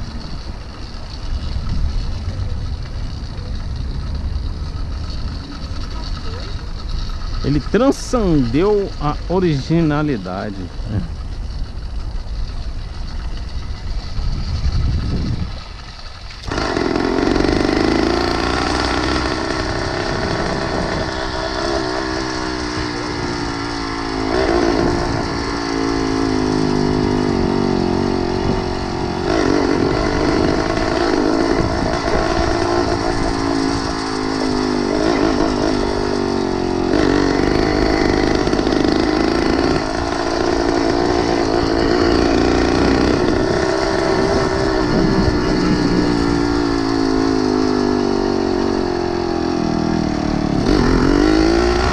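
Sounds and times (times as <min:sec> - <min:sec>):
low wind rumble: 0:00.0 - 0:17.6, 0:18.6 - 0:51.9
small engine revving: 0:00.0 - 0:51.9.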